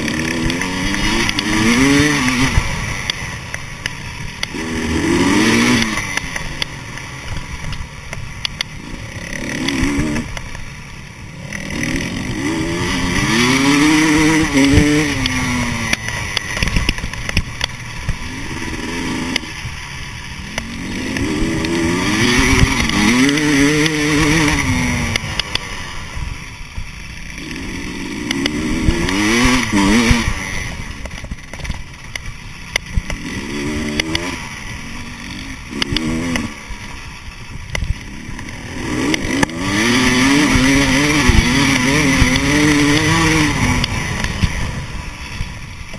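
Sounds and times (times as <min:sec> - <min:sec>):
two-stroke motorcycle engine revving: 0:00.0 - 0:45.9.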